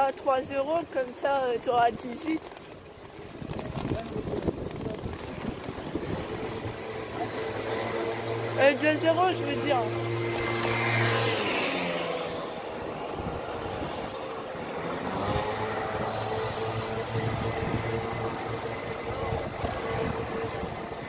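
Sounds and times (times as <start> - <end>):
vehicle engine hum: 0.0 - 21.0
wind and tyres rushing: 0.0 - 21.0.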